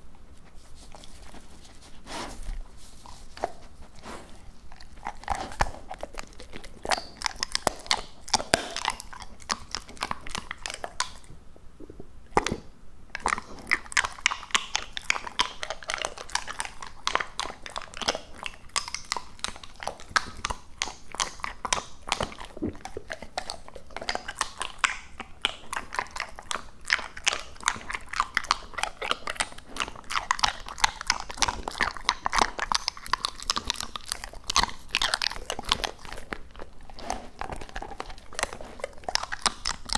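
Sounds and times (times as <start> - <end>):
dog chewing with crunching bites: 0.0 - 39.9.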